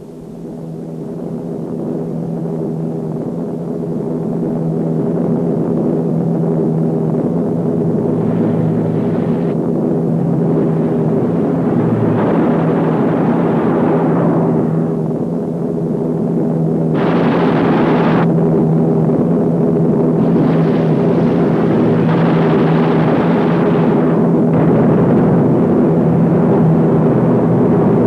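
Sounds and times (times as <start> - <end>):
piston-engine aircraft droning: 0.0 - 28.0.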